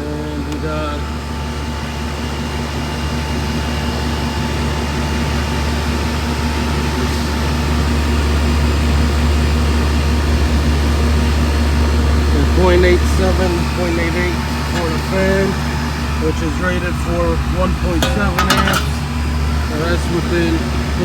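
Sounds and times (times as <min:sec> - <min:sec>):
compressor hum: 0:00.0 - 0:21.0
condenser fan rushing: 0:00.0 - 0:21.0.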